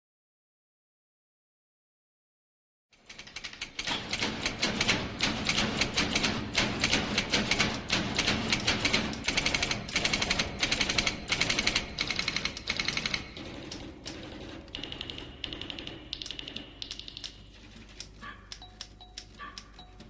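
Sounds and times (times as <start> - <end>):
typewriter-like clicking: 3.0 - 20.0.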